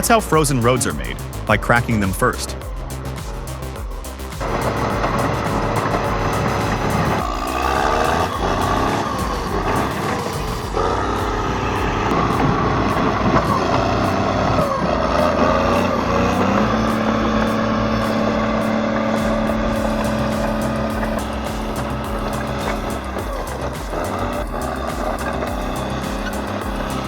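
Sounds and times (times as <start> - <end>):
diesel engine under load: 4.6 - 27.0.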